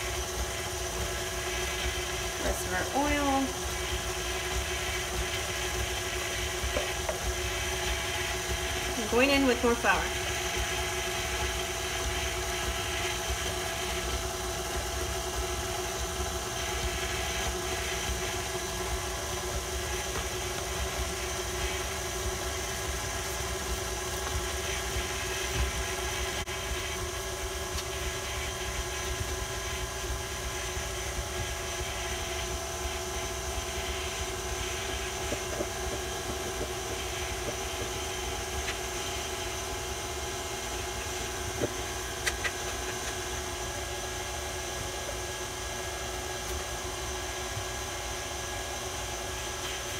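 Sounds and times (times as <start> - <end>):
whisk beating batter: 0.0 - 45.2
stand mixer motor hum: 0.0 - 49.9.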